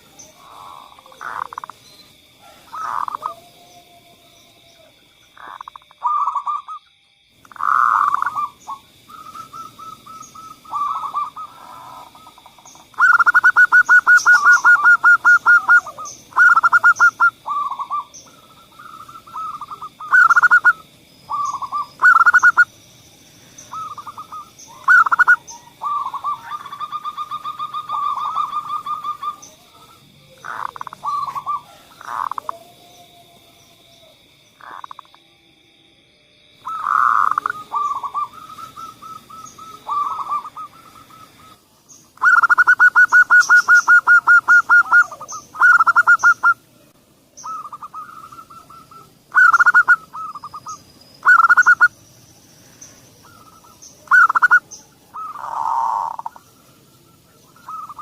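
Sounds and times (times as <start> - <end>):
doves cooing: 0.0 - 6.8, 7.5 - 22.8, 23.4 - 35.1, 36.6 - 46.8, 47.4 - 58.0.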